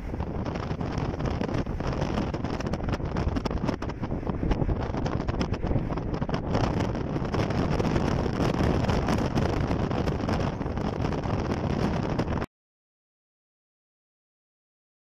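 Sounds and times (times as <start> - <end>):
moving car rumble: 0.0 - 12.5
wind buffeting microphone: 0.0 - 12.5.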